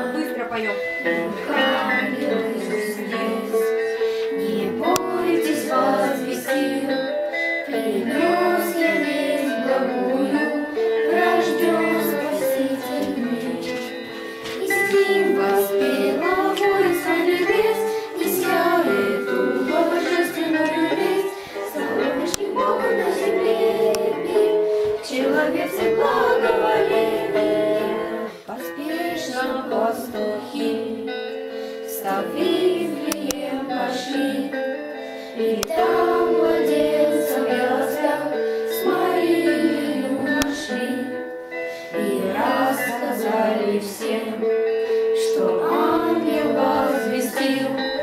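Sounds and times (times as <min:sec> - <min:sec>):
girls and women singing: 0:00.0 - 0:48.0.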